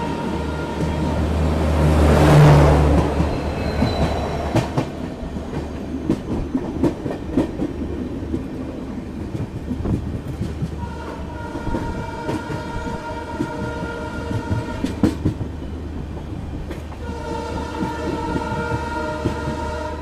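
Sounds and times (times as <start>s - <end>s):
train low rumble: 0.0s - 20.0s
train rushing past: 0.0s - 20.0s
train wheels clacking over rail joints: 2.8s - 8.6s, 9.3s - 20.0s.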